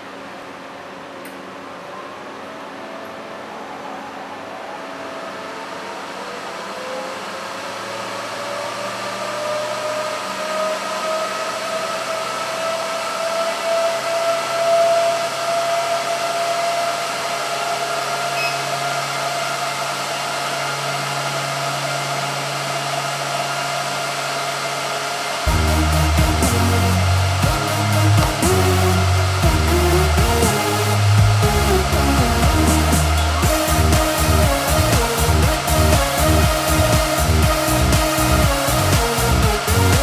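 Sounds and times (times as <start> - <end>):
cooling fans rushing air: 0.0 - 40.0
faint rising whine: 0.0 - 40.0.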